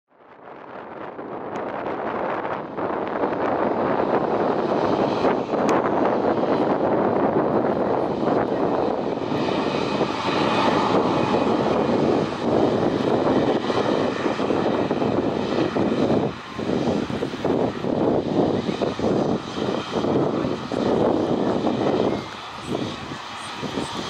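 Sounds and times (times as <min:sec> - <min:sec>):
jet engines rushing: 0:00.3 - 0:24.0
faint high engine whine: 0:00.4 - 0:24.0.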